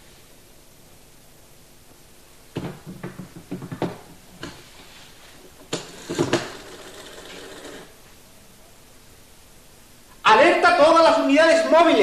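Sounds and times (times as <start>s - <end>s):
steady noise: 0.0s - 12.0s.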